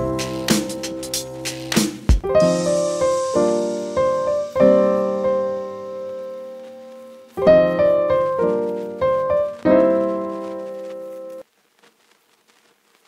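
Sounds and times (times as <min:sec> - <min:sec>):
piano chords: 0:00.0 - 0:11.4.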